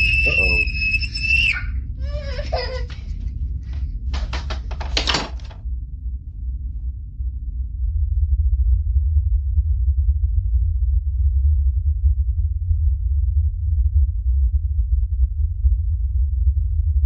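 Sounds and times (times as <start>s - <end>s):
deep rumble: 0.0s - 17.0s.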